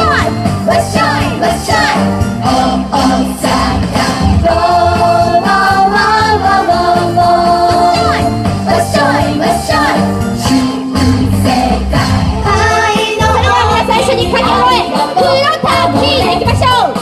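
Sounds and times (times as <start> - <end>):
loud music with group singing: 0.0 - 17.0.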